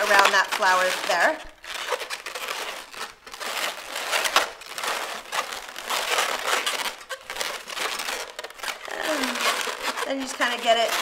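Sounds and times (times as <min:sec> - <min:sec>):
balloons rubbing and scrunching: 0:00.0 - 0:11.0.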